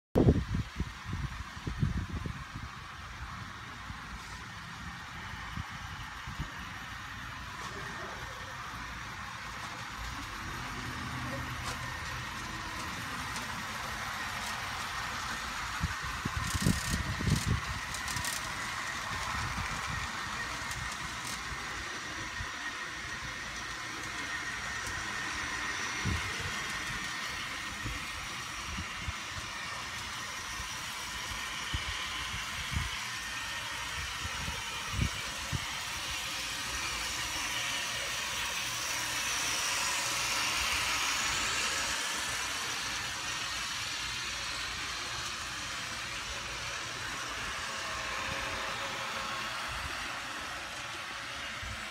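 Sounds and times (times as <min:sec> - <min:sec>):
model trains whirring on track: 0:00.2 - 0:51.9.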